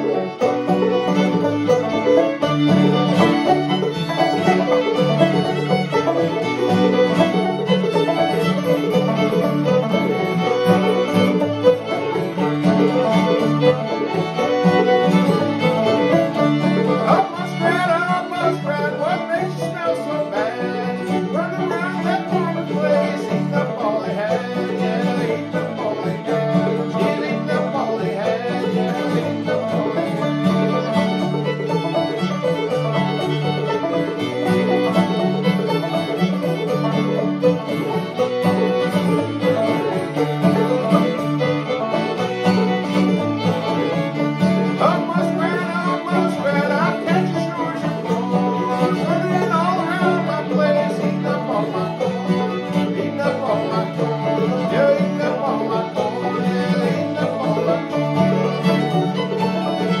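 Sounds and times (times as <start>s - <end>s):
acoustic guitar rhythm: 0.0s - 60.0s
banjo playing: 0.0s - 60.0s
fiddle melody: 0.0s - 60.0s.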